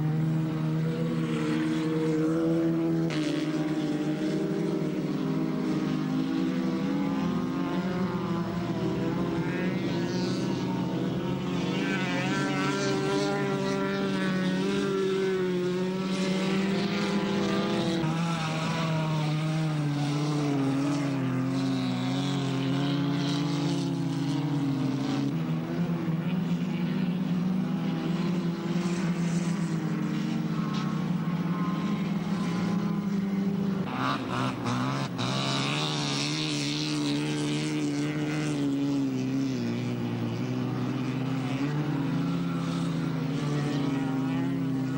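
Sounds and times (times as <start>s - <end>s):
race car engines running hard: 0.0s - 44.9s.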